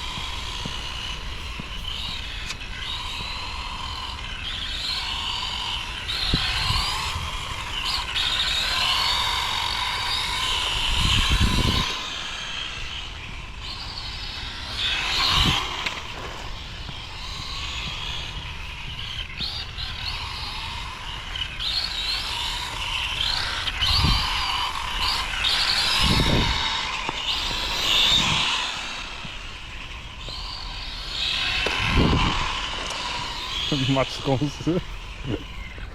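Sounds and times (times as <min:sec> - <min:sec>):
radio-controlled car motors whining: 0:00.0 - 0:35.9.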